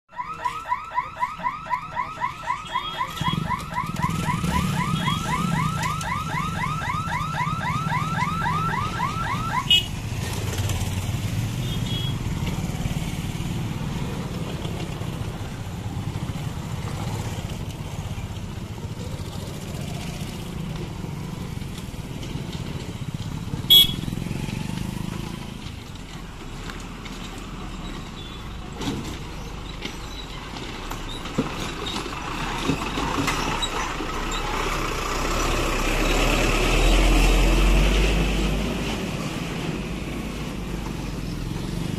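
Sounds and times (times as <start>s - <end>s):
motorcycle and scooter engines: 0.2s - 41.9s.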